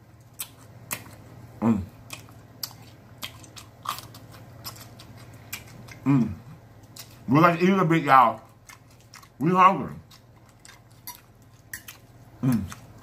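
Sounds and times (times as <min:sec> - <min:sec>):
close chewing: 0:00.1 - 0:01.3, 0:01.9 - 0:07.3, 0:08.2 - 0:13.0.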